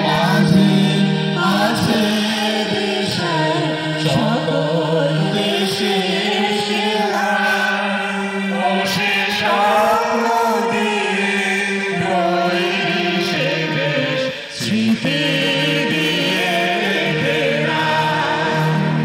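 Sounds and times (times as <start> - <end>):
group singing in unison: 0.0 - 19.0.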